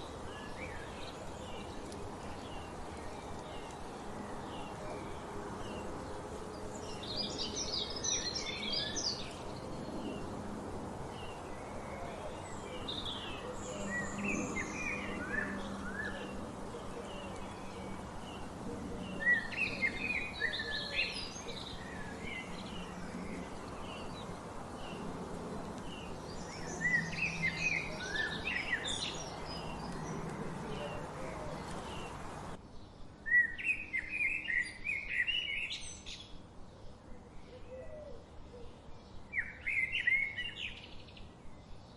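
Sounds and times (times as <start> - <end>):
songbirds chirping: 0.0 - 41.9
steady outdoor hiss: 0.0 - 41.9.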